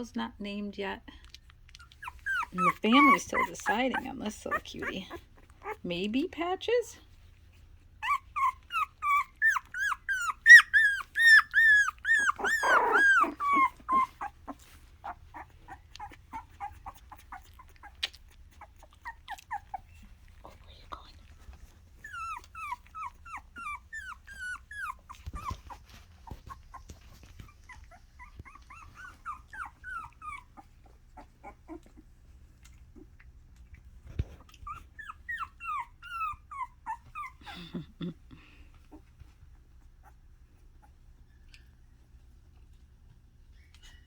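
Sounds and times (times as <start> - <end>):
puppy whining: 1.3 - 5.9, 7.0 - 44.0.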